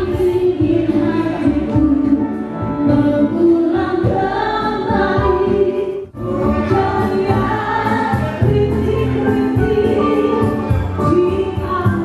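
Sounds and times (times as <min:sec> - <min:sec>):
group singing into microphones: 0:00.0 - 0:12.0
live band playing: 0:00.0 - 0:12.0.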